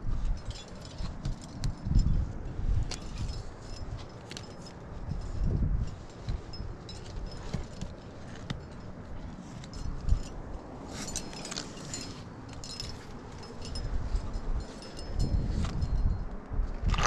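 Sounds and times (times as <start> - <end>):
metal climbing gear clinking: 0.0 - 17.0
wind rumble on microphone: 0.0 - 17.0.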